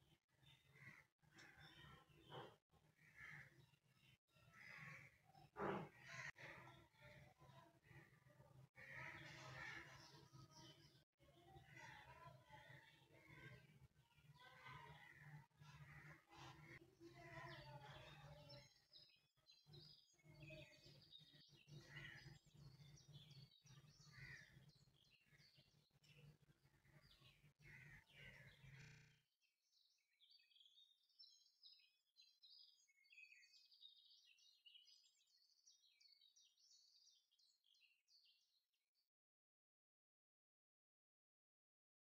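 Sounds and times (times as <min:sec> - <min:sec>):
faint birds chirping: 0:00.0 - 0:39.1.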